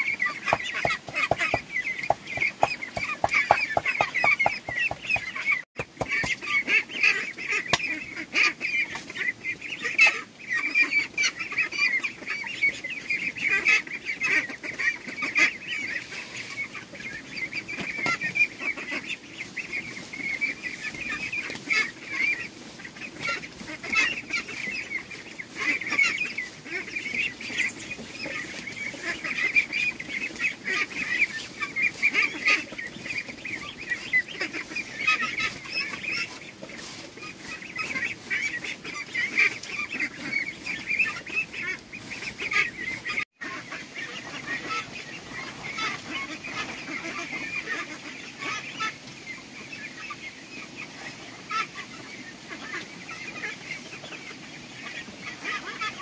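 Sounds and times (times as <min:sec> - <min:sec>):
fowl honking and calling: 0:00.0 - 0:56.0.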